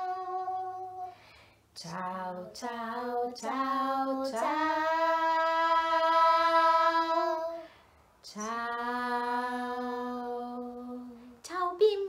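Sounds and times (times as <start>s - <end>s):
woman and girl singing: 0.0s - 1.2s, 1.8s - 12.0s.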